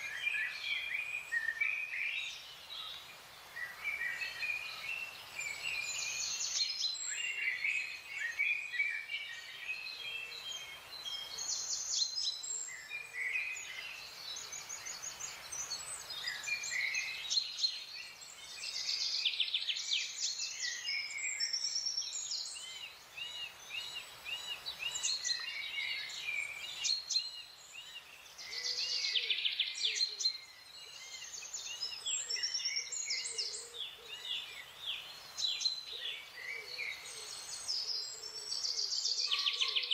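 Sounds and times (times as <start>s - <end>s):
birds singing and calling: 0.0s - 39.9s
faint steady hiss: 0.0s - 39.9s.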